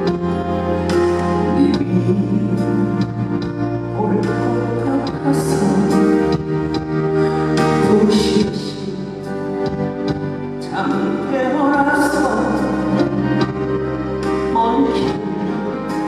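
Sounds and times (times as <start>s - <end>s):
live band music: 0.0s - 16.0s
person singing: 0.1s - 6.5s, 7.1s - 9.7s, 10.6s - 13.6s, 14.2s - 16.0s.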